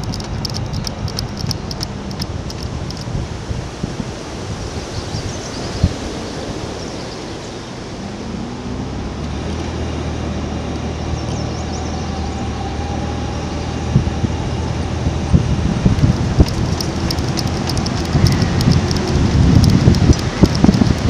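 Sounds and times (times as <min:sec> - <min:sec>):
engine humming: 0:00.0 - 0:21.0
rushing background noise: 0:00.0 - 0:21.0.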